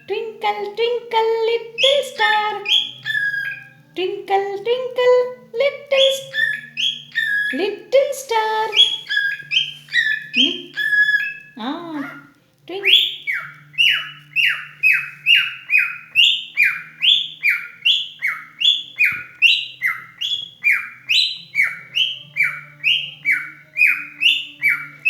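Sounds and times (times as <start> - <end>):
cockatiel chirping: 1.7 - 3.9, 5.9 - 25.0.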